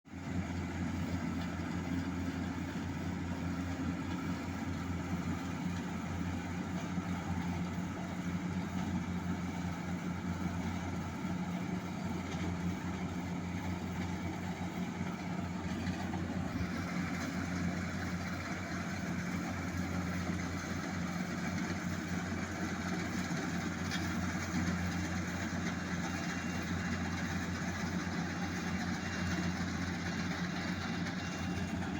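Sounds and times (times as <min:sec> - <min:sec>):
tractor diesel engine humming: 0:00.1 - 0:31.9.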